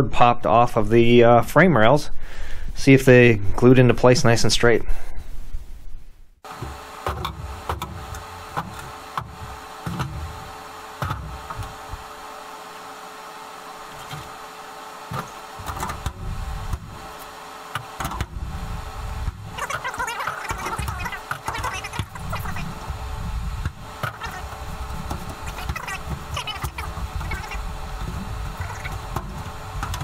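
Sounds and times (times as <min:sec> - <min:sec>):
steady hum: 0:05.2 - 0:30.0.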